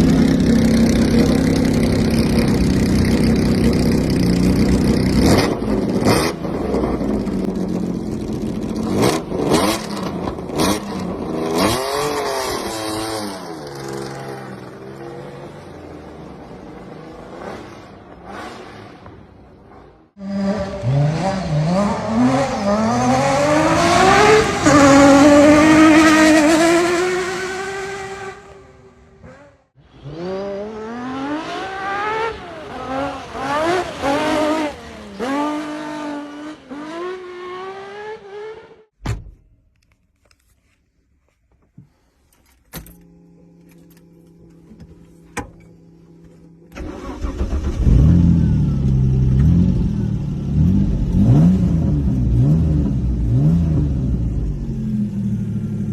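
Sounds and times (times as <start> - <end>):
car engine accelerating: 0.0 - 38.9, 43.1 - 55.9.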